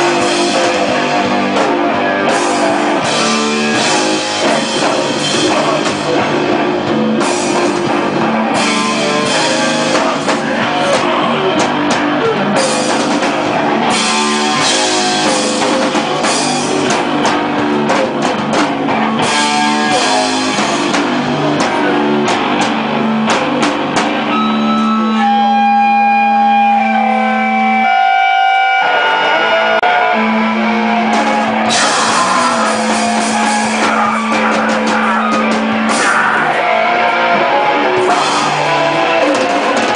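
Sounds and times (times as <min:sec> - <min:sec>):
hardcore band playing live: 0:00.0 - 0:39.9.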